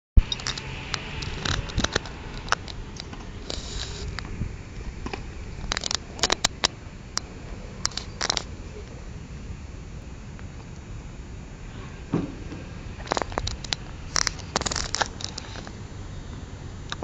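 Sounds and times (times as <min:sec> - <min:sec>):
low steady rumble: 0:00.2 - 0:17.0.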